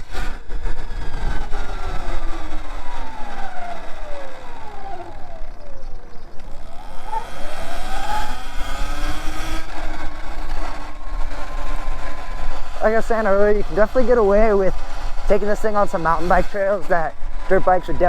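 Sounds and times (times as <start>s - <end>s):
electric motorbike motor whining: 0.0s - 18.0s
low wind rumble: 0.0s - 18.0s.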